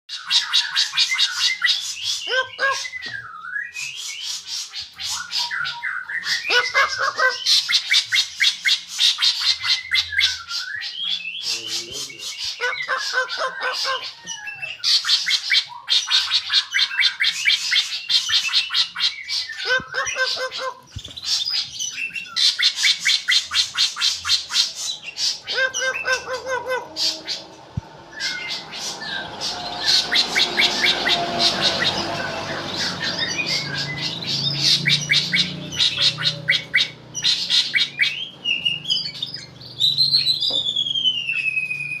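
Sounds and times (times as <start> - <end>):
bird singing: 0.0 - 42.0.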